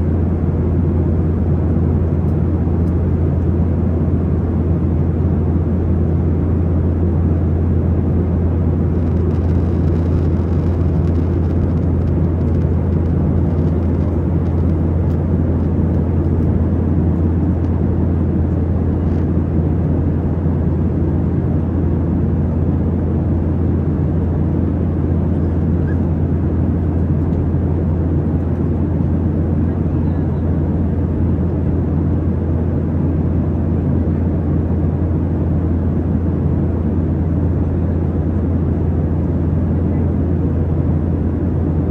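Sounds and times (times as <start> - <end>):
airplane engine drone: 0.0 - 41.9.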